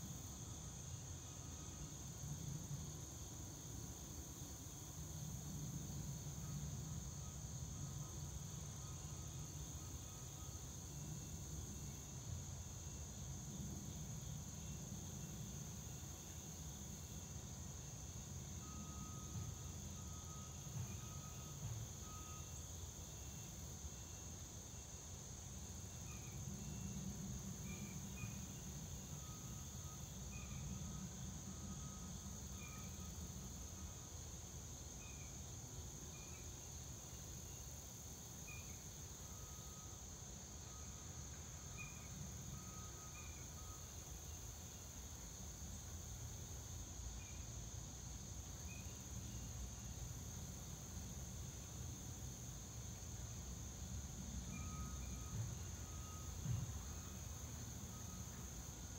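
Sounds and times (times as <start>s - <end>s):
insect chirps: 0.0s - 58.9s
insects droning: 0.0s - 58.9s.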